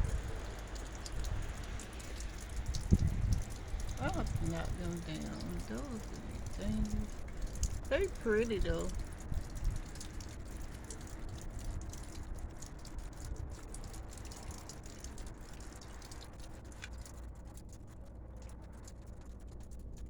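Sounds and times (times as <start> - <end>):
steady low rumble: 0.0 - 20.0
water dripping from icicles: 0.0 - 20.0.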